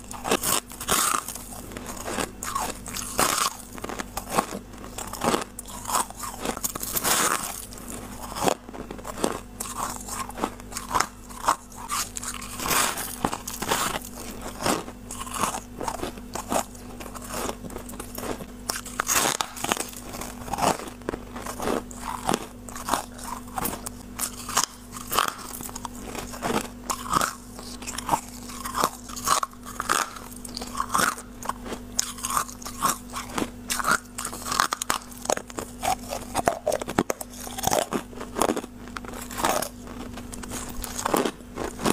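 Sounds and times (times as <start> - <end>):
wet chewing: 0.0 - 41.9
crisp ice crunching: 0.1 - 41.9.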